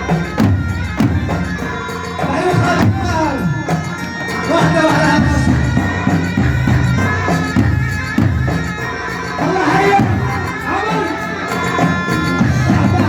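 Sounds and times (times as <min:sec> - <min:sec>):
drum: 0:00.0 - 0:13.0
reedy wind instrument melody: 0:00.0 - 0:13.0.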